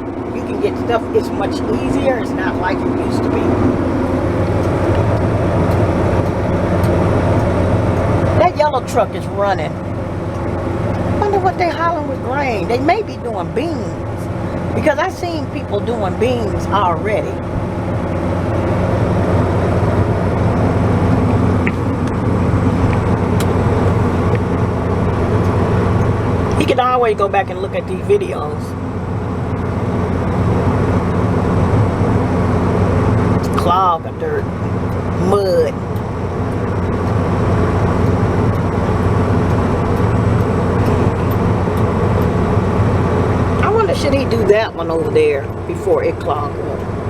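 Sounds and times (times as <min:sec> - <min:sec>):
engine humming: 0:00.0 - 0:47.0.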